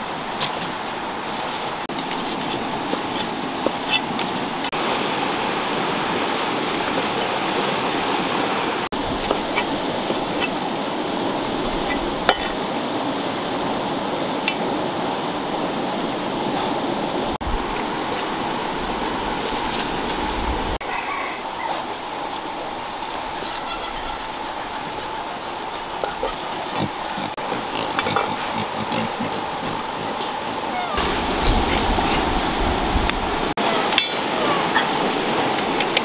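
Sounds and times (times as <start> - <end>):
stream flowing: 0.0 - 36.0.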